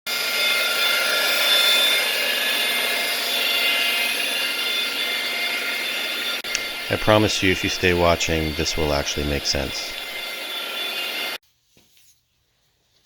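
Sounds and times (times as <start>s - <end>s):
power tool whining and grinding: 0.1s - 11.4s.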